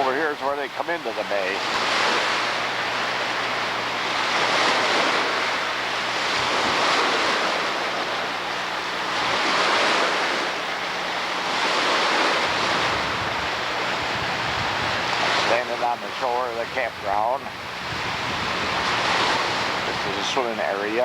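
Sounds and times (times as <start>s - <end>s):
waves washing onto shore: 0.0s - 21.0s.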